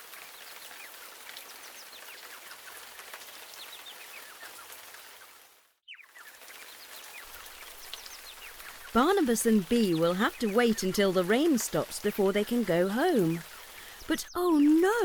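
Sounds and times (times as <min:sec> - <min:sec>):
falling rain hiss: 0:00.0 - 0:15.0.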